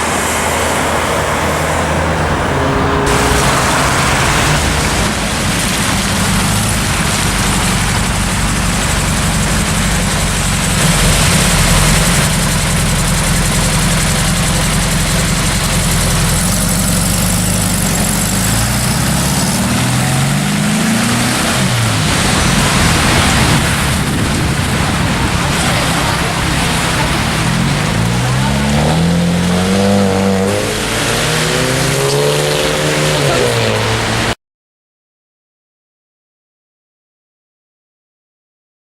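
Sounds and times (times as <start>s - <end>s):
car engine accelerating: 0.0s - 34.4s
street noise: 0.0s - 34.4s.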